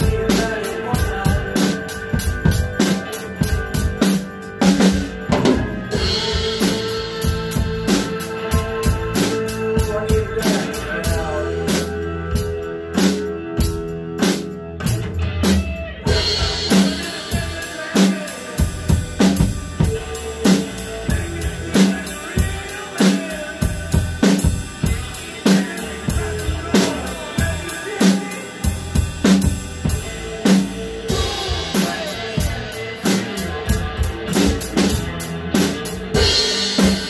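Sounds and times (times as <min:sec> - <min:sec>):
drum kit playing a steady beat: 0:00.0 - 0:37.0.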